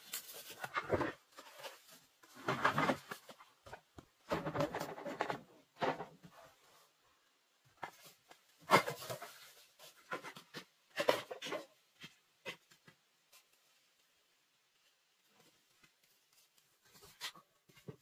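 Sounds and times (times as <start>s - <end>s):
bamboo strips rustling and clattering: 0.0s - 18.0s.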